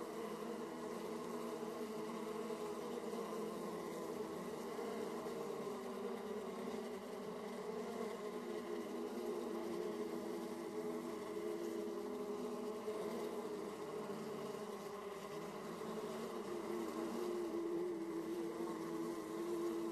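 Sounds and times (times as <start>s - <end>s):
honeybees buzzing: 0.0s - 19.9s.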